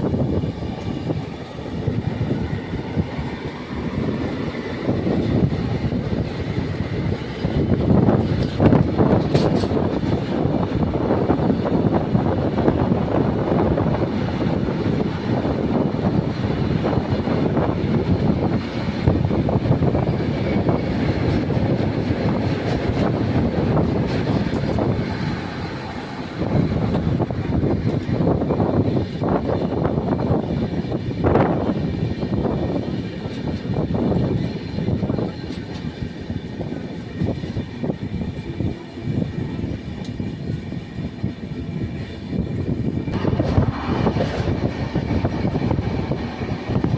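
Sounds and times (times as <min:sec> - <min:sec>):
train rattling and clatter: 0:00.0 - 0:46.9
train running at speed: 0:00.0 - 0:46.9.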